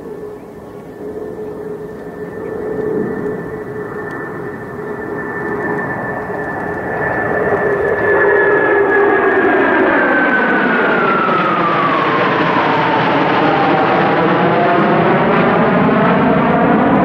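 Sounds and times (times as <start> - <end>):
fighter jets passing overhead: 0.0 - 17.0.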